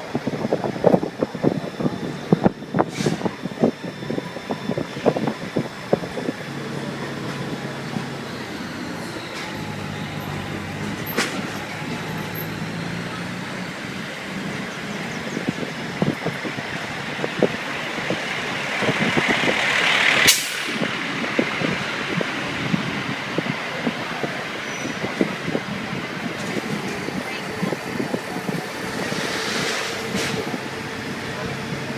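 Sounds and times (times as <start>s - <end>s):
street noise: 0.0s - 31.9s.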